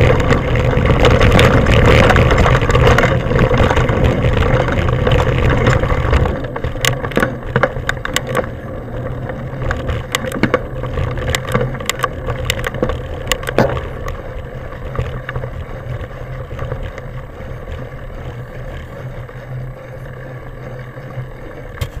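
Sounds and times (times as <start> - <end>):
bike rattling over bumps: 0.0 - 22.0
wind and tyre noise: 0.0 - 22.0.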